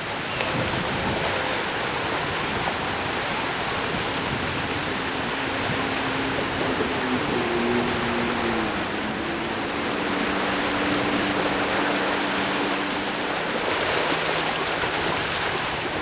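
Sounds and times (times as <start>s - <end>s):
sea surf washing along shore: 0.0s - 16.0s.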